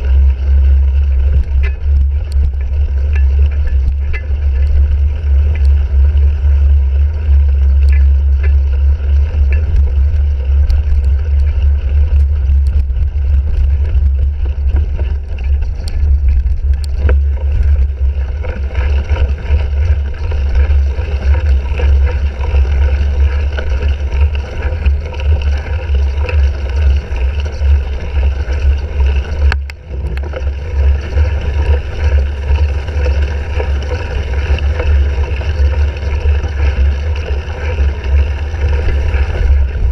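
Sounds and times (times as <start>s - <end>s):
bike clicks and rattles: 0.0s - 39.9s
wind rumble on microphone: 0.0s - 39.9s.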